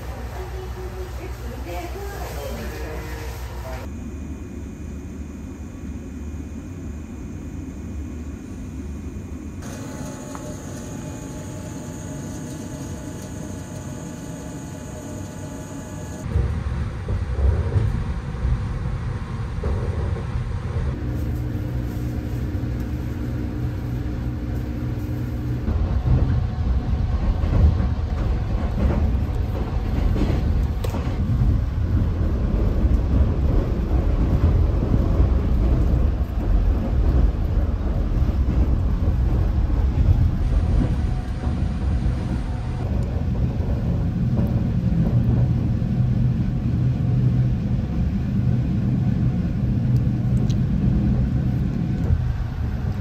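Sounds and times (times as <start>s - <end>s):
steady humming tones: 0.0s - 53.0s
train wheels rumbling on rails: 9.6s - 53.0s.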